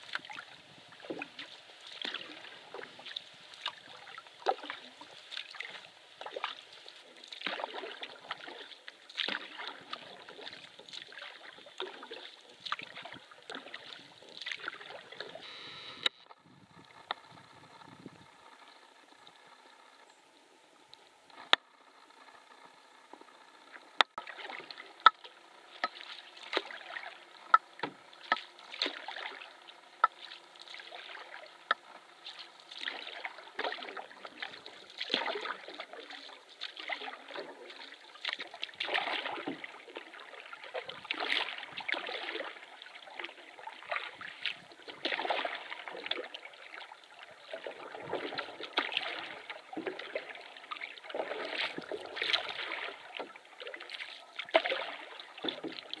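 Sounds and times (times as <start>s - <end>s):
paddle swishing water: 0.0s - 56.0s.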